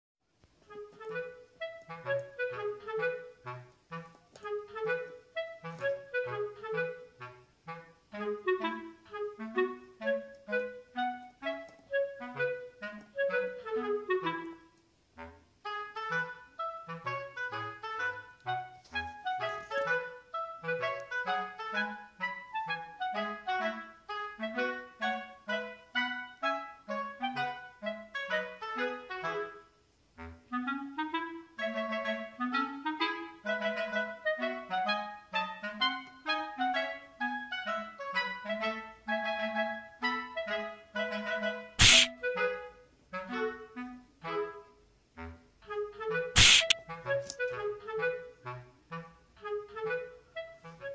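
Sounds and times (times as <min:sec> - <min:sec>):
light bouncy music: 0:00.6 - 0:50.9.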